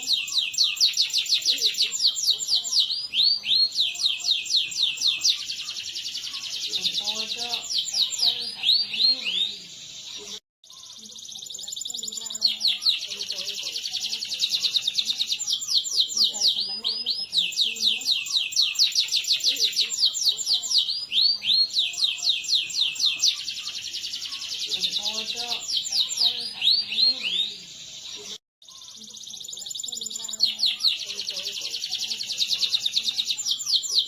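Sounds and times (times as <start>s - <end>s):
canary singing trilled runs: 0.0s - 34.0s.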